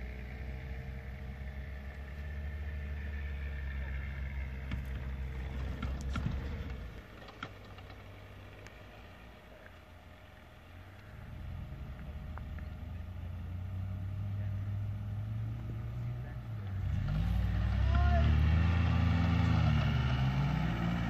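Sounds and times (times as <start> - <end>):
car engine droning under load: 0.0 - 21.0.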